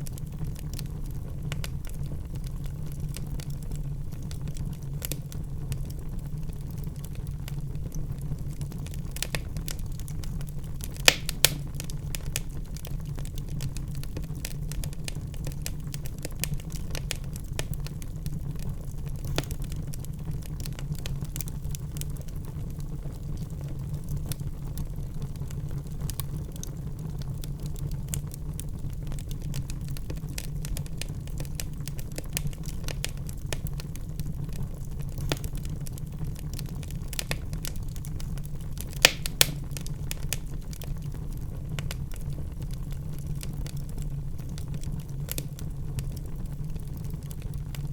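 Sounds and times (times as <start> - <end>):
loud fire snaps: 0.0 - 47.9
wood fire crackling: 0.0 - 47.9.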